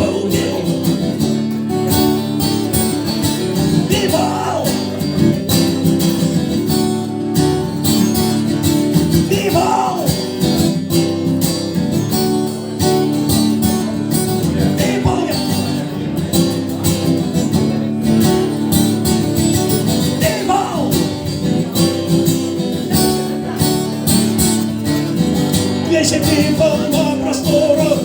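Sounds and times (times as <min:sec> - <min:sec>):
acoustic guitar strummed: 0:00.0 - 0:28.0.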